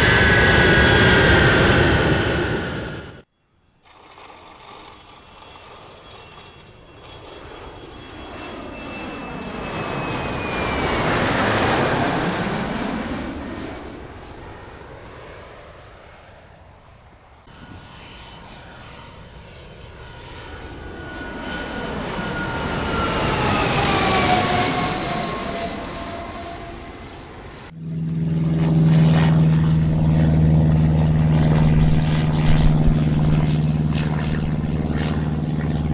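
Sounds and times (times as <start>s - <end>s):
jet airliner passing overhead: 0.0s - 35.9s
low aircraft engine drone: 0.0s - 35.9s.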